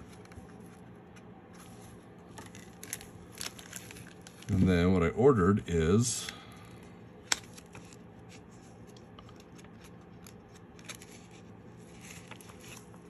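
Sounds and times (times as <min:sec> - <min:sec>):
plastic sleeves rustling: 0:00.0 - 0:05.2, 0:07.1 - 0:13.0.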